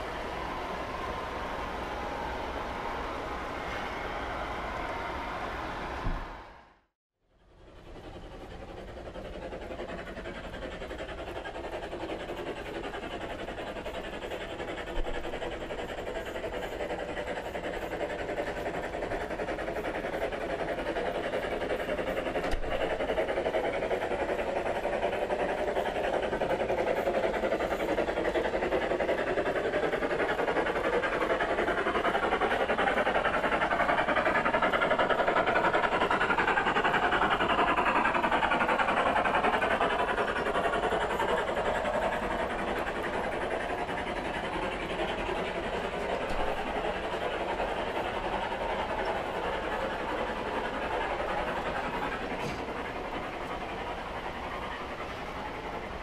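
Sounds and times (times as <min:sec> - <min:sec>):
model train wheels rumbling: 0:07.4 - 0:56.0.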